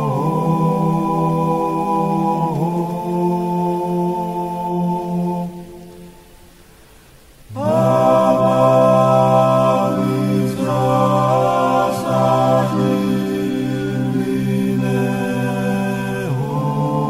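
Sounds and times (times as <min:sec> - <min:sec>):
chant-like vocal music: 0:00.0 - 0:06.6, 0:07.2 - 0:17.0.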